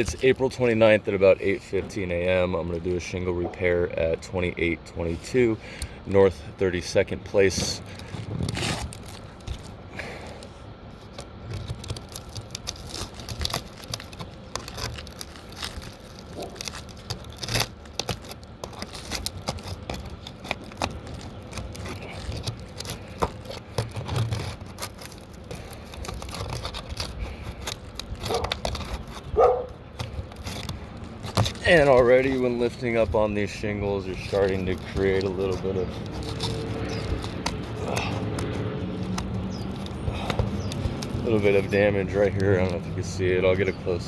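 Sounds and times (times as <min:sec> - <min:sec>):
asphalt shingles scraping and clicking: 0:00.0 - 0:44.0.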